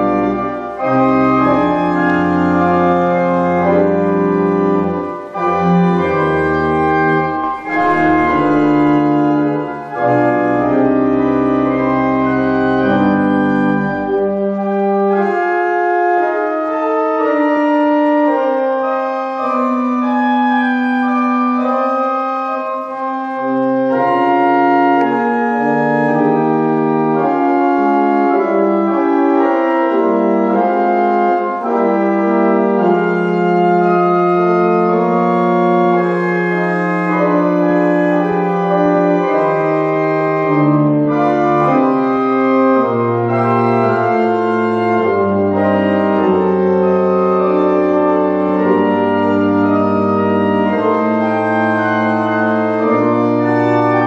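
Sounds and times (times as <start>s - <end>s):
church pipe organ playing: 0.0s - 54.0s.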